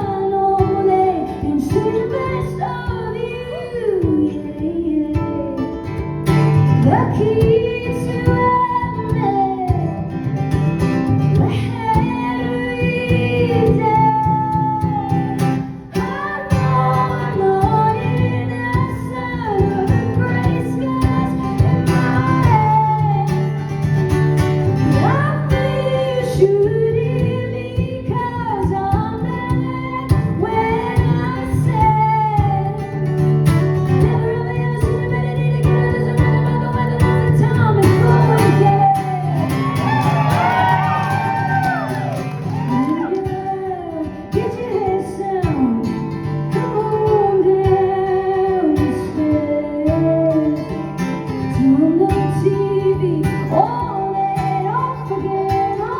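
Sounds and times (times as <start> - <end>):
guitar accompaniment: 0.0 - 55.9
woman singing: 0.0 - 55.9.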